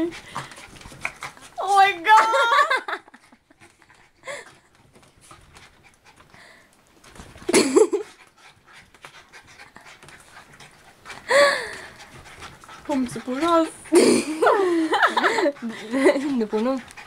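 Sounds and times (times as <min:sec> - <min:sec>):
small dogs panting and scuffling: 0:00.0 - 0:17.0.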